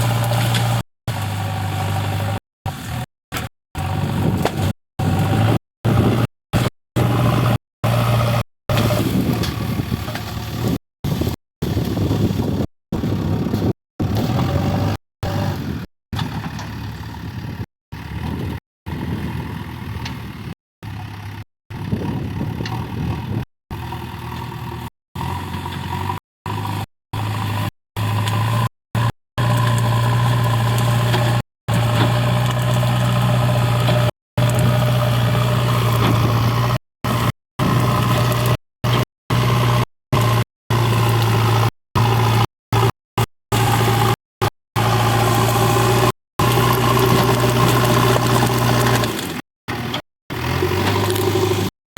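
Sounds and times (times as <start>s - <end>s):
diesel engine running: 0.0s - 51.8s.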